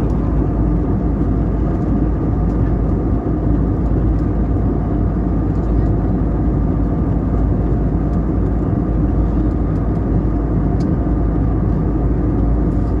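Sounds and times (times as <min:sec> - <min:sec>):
airliner cabin jet rumble: 0:00.0 - 0:13.0.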